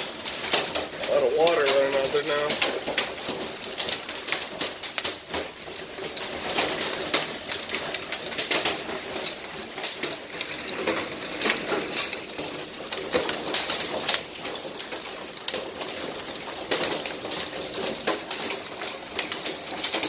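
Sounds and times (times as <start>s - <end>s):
hail and heavy rain on window: 0.0s - 20.0s.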